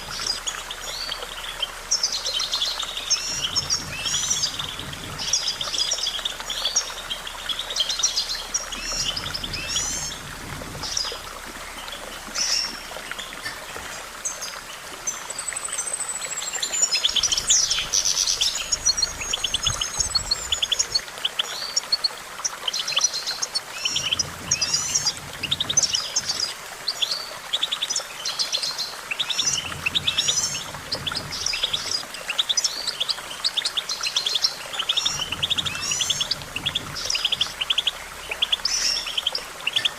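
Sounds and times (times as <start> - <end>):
goldfinch singing: 0.0 - 11.3, 15.1 - 21.9, 22.7 - 39.9.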